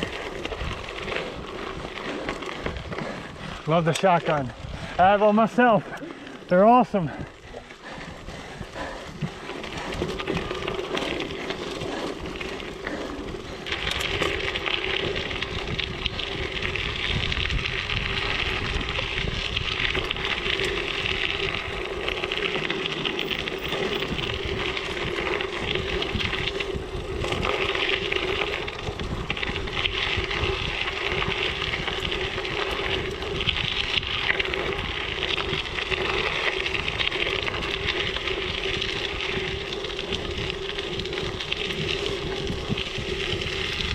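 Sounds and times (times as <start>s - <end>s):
bike tyres rolling: 0.0s - 43.9s
wind on microphone: 7.0s - 43.9s.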